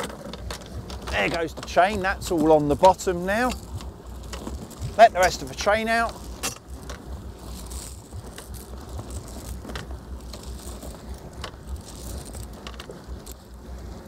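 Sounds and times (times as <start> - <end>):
anchor chain clinking: 0.0 - 13.6
wind rumble on microphone: 0.0 - 14.0.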